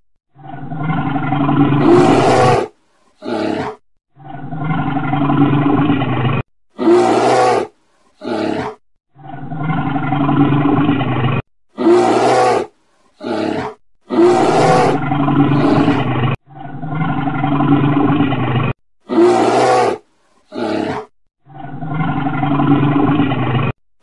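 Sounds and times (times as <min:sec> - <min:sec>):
bear roaring and growling: 0:00.4 - 0:23.8.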